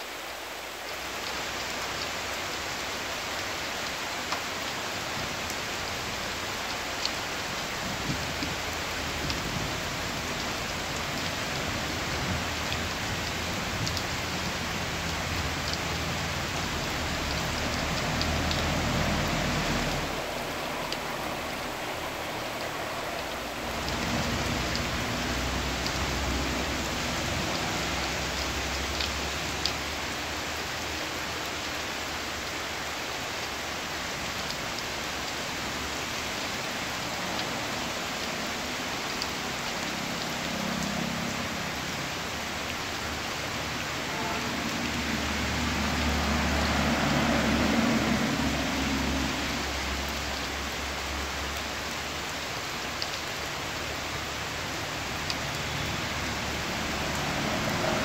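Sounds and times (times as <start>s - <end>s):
rain falling on foliage: 0.0s - 58.0s
drops ticking on leaves: 0.6s - 58.0s.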